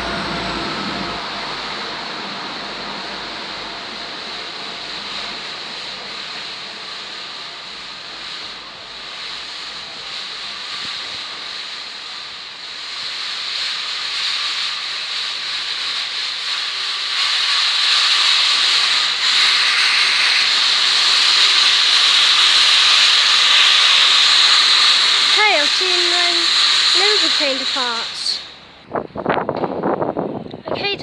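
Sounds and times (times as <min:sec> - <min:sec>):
train rushing hiss: 0:00.0 - 0:31.0.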